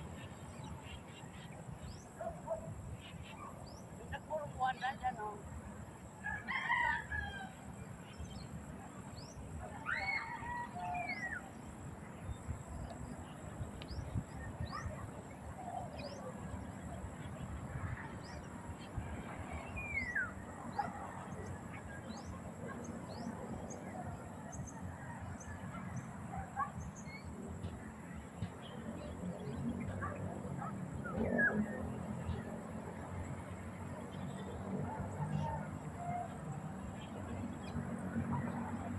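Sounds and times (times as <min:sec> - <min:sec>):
flock of birds chirping: 0:00.0 - 0:38.9.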